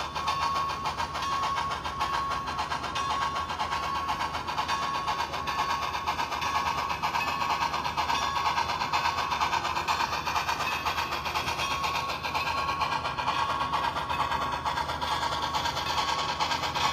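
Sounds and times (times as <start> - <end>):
model train whirring: 0.0 - 16.9.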